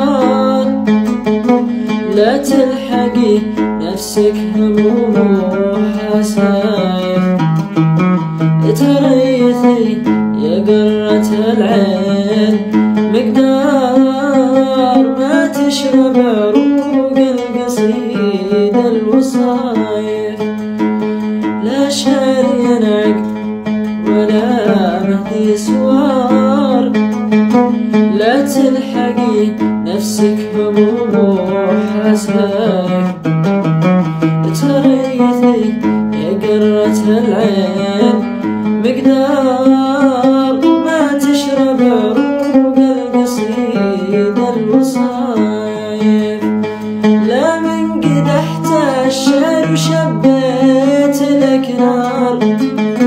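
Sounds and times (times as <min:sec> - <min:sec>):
man singing: 0:00.0 - 0:53.0
oud plucked melody: 0:00.0 - 0:53.0.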